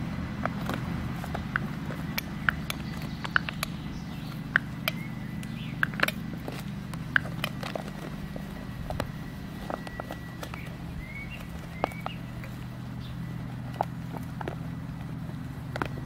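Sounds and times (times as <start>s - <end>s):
low background hum: 0.0s - 16.0s
puppies scuffling on grass: 0.0s - 16.0s.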